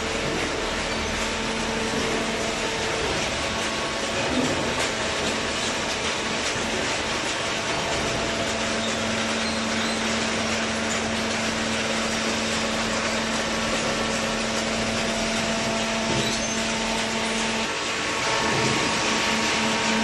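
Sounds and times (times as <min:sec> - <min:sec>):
baling machine humming: 0:00.0 - 0:20.0.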